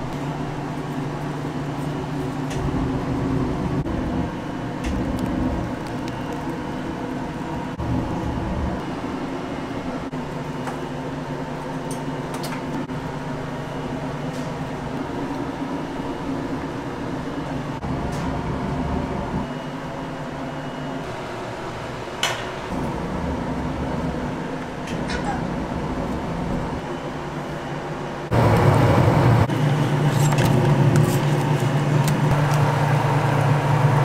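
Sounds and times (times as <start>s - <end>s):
kitchen machinery humming: 0.0s - 34.0s.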